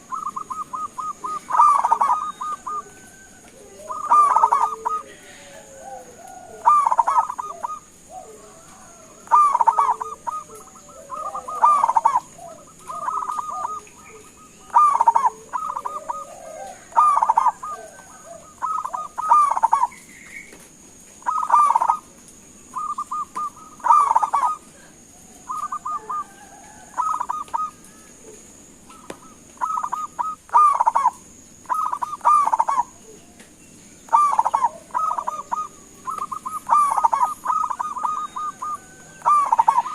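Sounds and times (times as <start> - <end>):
dove cooing: 0.0 - 20.2, 21.1 - 33.4, 34.0 - 39.9.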